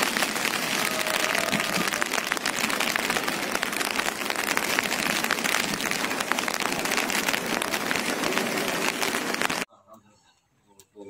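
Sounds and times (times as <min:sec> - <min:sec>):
rain falling steadily: 0:00.0 - 0:09.7.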